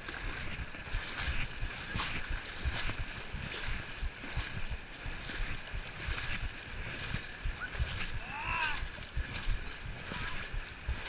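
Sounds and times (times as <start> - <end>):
wading through muddy water: 0.0 - 11.0
wind rumble on microphone: 0.0 - 11.0.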